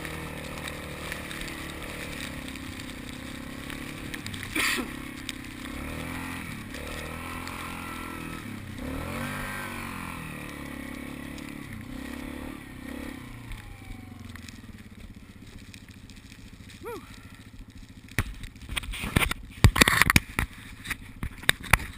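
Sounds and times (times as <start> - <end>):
atv engine revving: 0.0 - 21.9.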